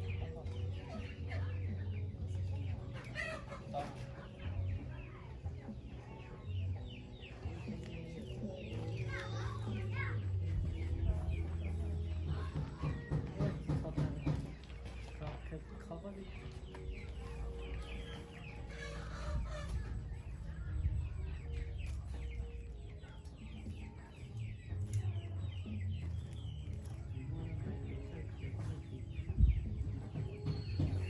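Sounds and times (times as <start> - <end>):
chickens clucking and cheeping: 0.0 - 31.0.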